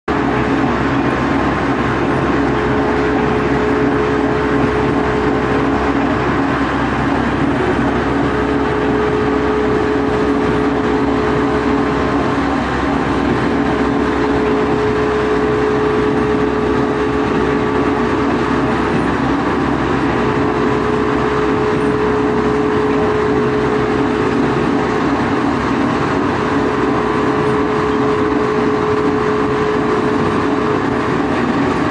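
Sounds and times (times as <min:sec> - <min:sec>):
grinding mill machine drone: 0:00.0 - 0:31.9
steady hum: 0:00.1 - 0:31.9.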